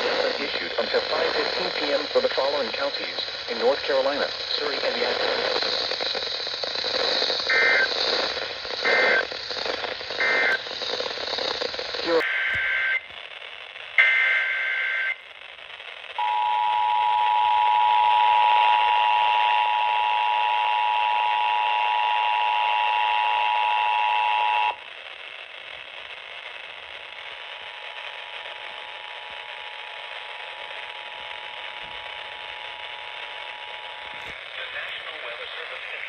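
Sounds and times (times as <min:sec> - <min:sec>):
radio hiss: 0:00.0 - 0:36.0.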